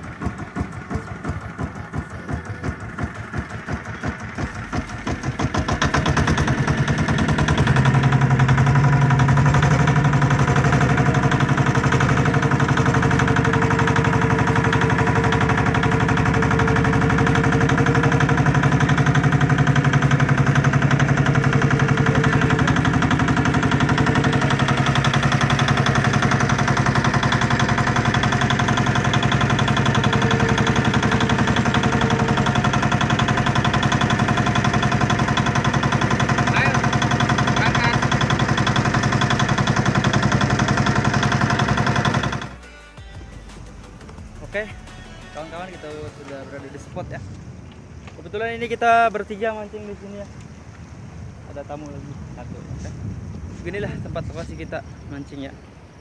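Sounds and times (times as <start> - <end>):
boat engine idling: 0.0 - 56.0.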